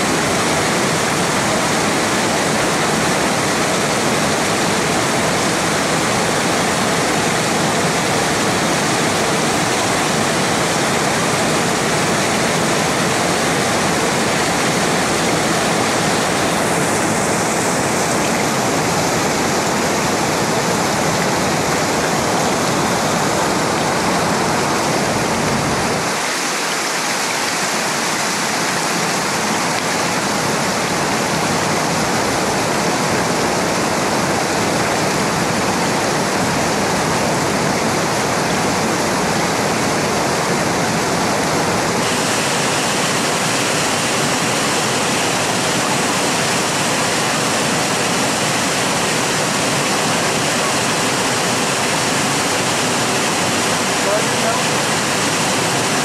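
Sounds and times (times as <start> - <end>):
creek rushing over boulders: 0.0 - 56.0.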